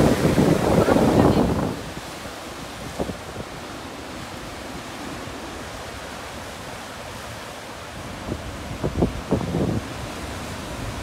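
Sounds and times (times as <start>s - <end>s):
surf breaking over rocks: 0.0s - 11.0s
wind on microphone: 0.0s - 11.0s.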